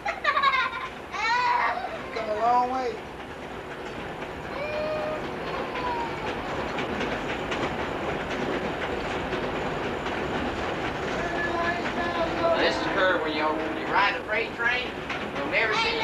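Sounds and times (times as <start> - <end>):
train coach rolling rumble: 0.0 - 16.0
wheel clicks over rail joints: 2.0 - 16.0.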